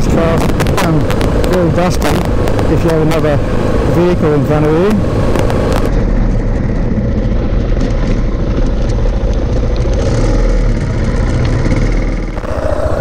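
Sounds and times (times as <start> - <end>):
motorcycle engine running: 0.0 - 13.0
rumble of microphone noise: 0.0 - 13.0.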